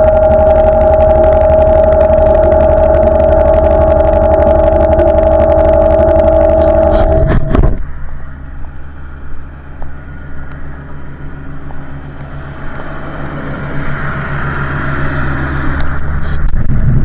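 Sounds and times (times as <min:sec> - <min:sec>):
loud steady high whine: 0:00.0 - 0:17.0.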